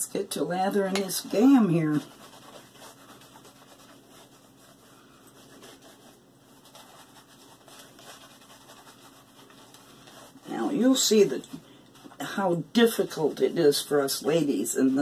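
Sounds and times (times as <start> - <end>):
shaving brush swishing: 0.9 - 15.0.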